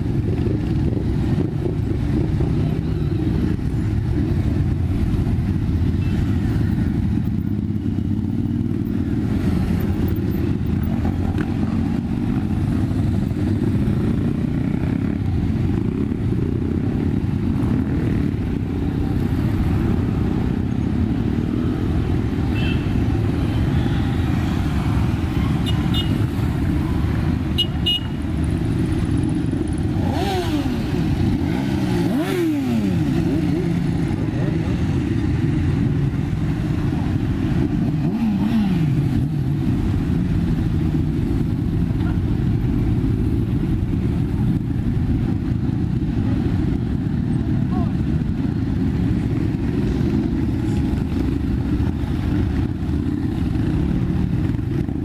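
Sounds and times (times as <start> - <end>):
motorcycle engines droning: 0.0 - 55.0.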